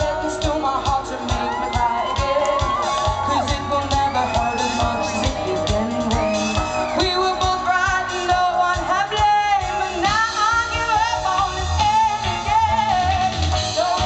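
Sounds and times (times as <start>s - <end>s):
band with steady drum beat: 0.0s - 14.0s
woman singing with vibrato: 0.0s - 14.0s.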